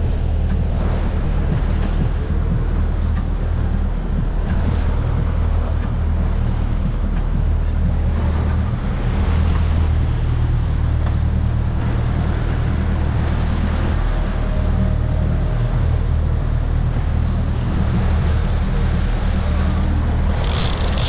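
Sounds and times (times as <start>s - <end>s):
boat engines droning: 0.0s - 21.0s
wind on microphone: 0.0s - 21.0s.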